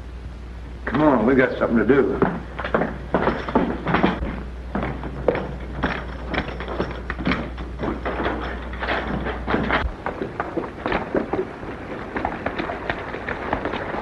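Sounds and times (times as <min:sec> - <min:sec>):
knocks and thumps: 0:02.2 - 0:14.0.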